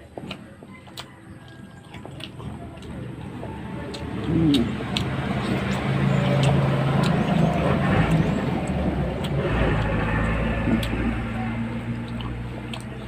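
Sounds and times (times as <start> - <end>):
deep rumble: 2.3 - 13.0
vehicle engine running: 2.3 - 13.0.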